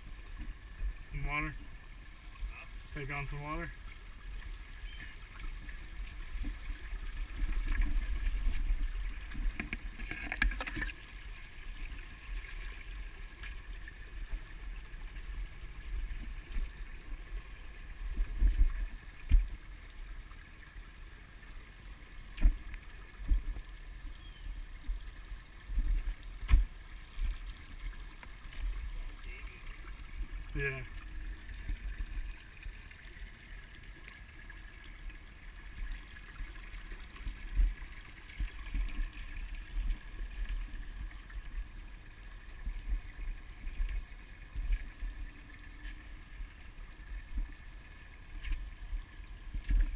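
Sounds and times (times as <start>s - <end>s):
creek trickling over rocks: 0.0s - 49.9s.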